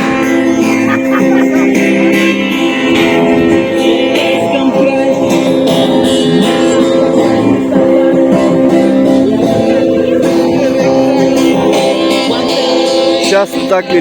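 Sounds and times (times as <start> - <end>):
amplified acoustic guitar: 0.0 - 14.0.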